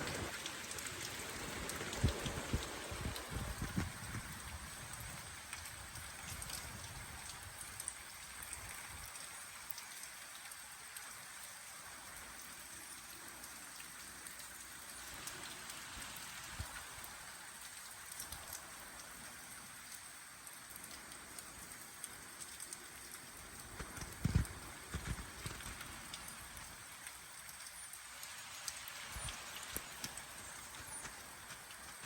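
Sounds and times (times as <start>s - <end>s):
heavy rain: 0.0s - 32.0s.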